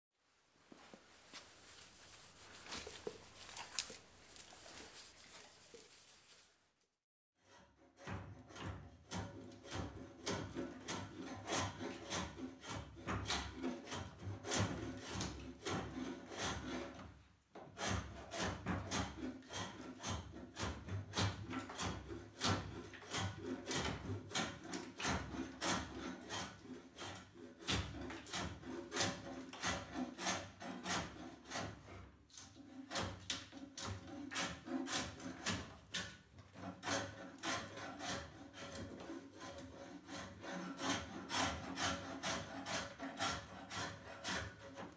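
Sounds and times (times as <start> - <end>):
hand tool scraping bark: 1.3 - 6.2, 8.0 - 17.0, 17.8 - 44.9.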